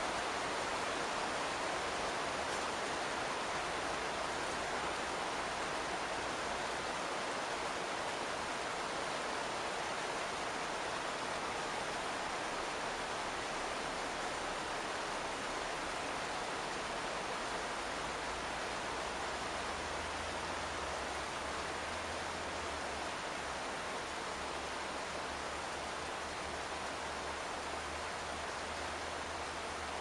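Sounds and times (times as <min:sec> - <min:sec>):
rain drumming on a roof: 0:00.0 - 0:30.0.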